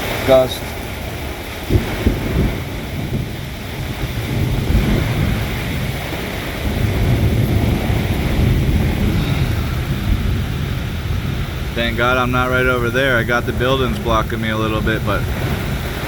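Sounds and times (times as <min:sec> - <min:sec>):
wind gust buffeting microphone: 0:00.0 - 0:16.0.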